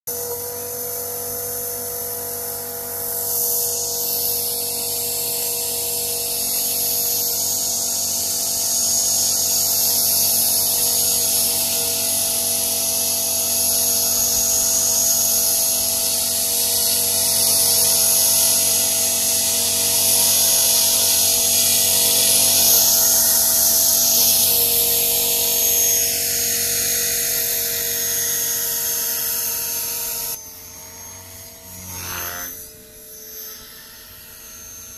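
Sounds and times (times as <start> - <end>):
electric motor high whine: 0.1 - 34.9
helicopter rotor whirring: 0.1 - 34.9.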